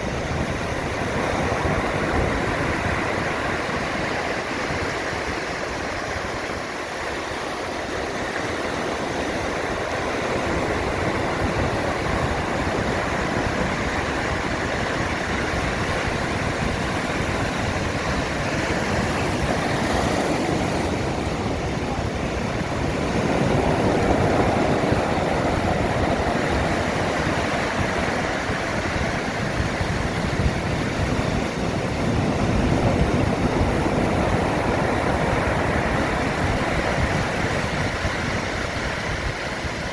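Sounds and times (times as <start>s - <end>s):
rough sea waves breaking: 0.0s - 39.9s.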